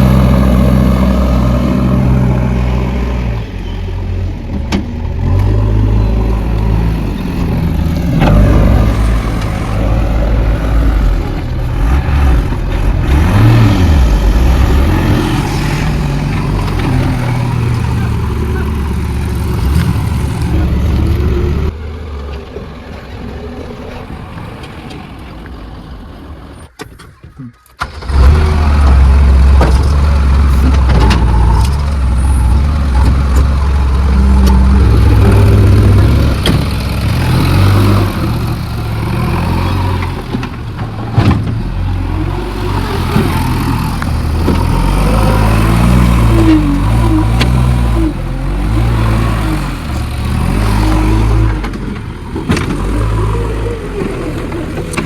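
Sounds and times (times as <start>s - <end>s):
diesel engine revving: 0.0s - 26.8s, 27.8s - 55.0s.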